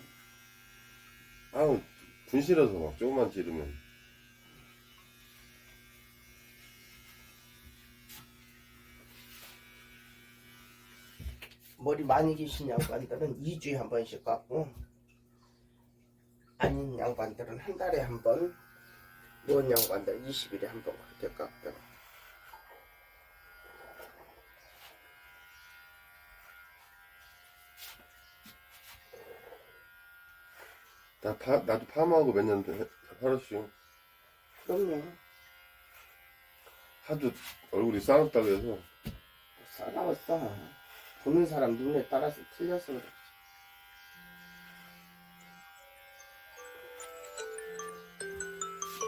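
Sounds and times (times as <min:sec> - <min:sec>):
electric hair clippers buzzing: 0:00.0 - 0:13.5, 0:16.9 - 0:49.0.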